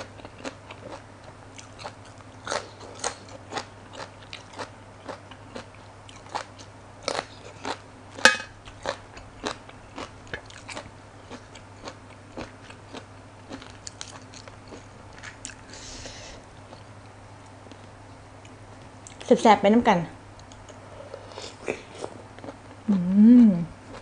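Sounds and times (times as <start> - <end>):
chewing crisp raw vegetables: 0.0 - 15.7, 20.4 - 24.0.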